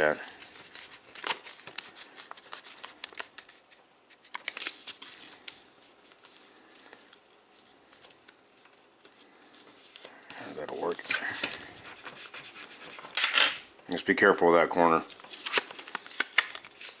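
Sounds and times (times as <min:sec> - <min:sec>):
thick paper crinkling: 0:00.2 - 0:13.2, 0:14.8 - 0:17.0.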